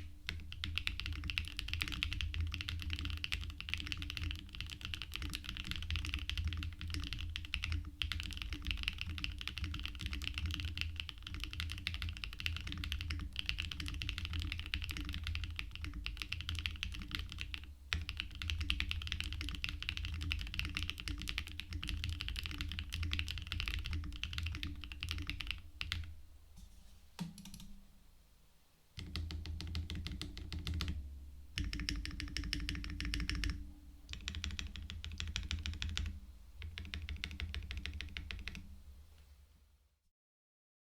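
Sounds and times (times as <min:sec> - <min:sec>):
fast typing on mechanical keyboard: 0:00.0 - 0:26.1, 0:29.0 - 0:31.0, 0:31.6 - 0:38.6.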